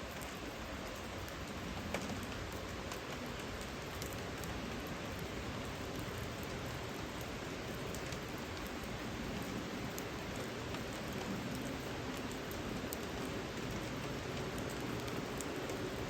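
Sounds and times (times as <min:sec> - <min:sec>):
rain hissing: 0:00.0 - 0:16.0
raindrop ticks: 0:00.0 - 0:16.0.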